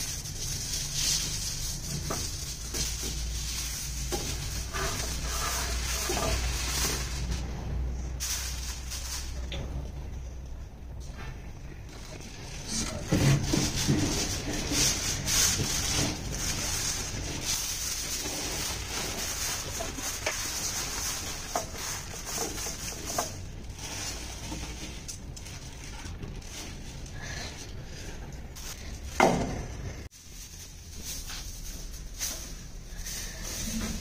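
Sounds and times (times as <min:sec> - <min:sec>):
aluminium foil crinkling: 0:00.0 - 0:07.4, 0:08.2 - 0:09.6, 0:11.9 - 0:29.2, 0:30.1 - 0:34.0.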